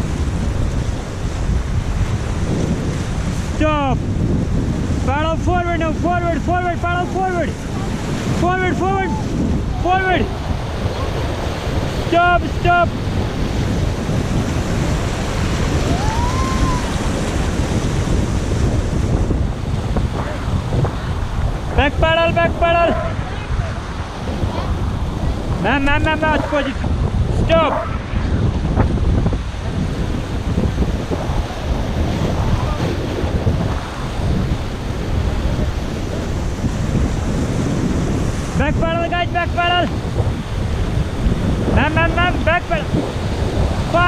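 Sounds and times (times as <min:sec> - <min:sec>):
rushing whitewater: 0:00.0 - 0:44.0
wind buffeting microphone: 0:00.0 - 0:44.0.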